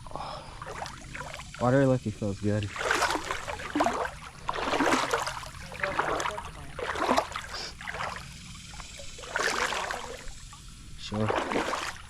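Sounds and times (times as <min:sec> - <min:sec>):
wading through shallow water: 0:00.0 - 0:12.0.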